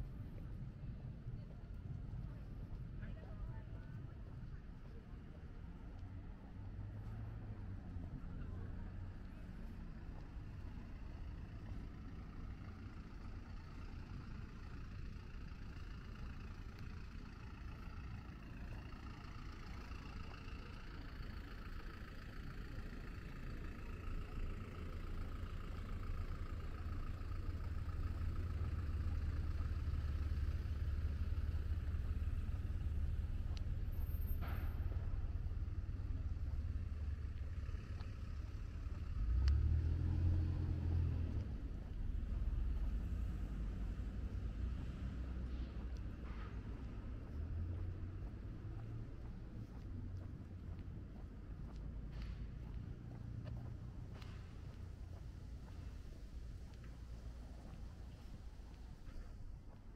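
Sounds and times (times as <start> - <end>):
cars passing: 6.4 - 59.9.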